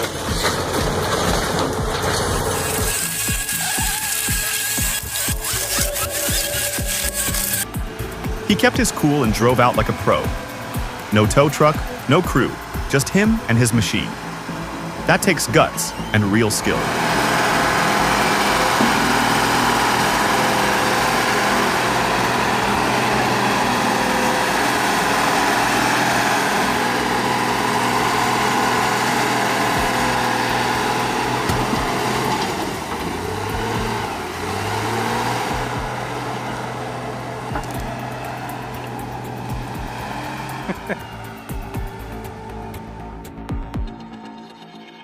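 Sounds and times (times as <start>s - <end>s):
excavator engine working hard: 0.0s - 45.0s.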